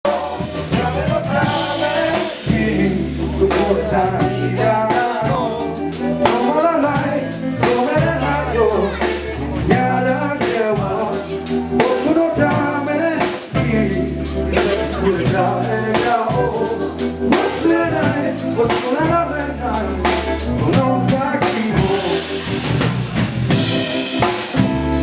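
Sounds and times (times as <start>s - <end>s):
bass line: 0.0s - 25.0s
drum kit beat: 0.0s - 25.0s
person singing: 0.1s - 22.8s.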